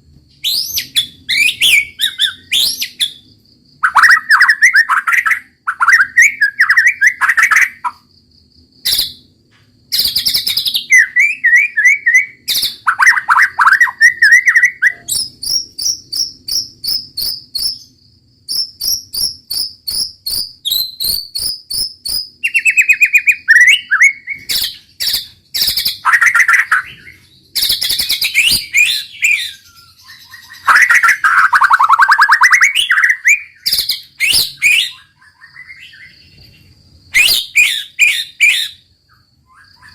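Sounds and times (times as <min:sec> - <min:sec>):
bird singing varied phrases: 0:00.3 - 0:08.1, 0:09.9 - 0:39.9.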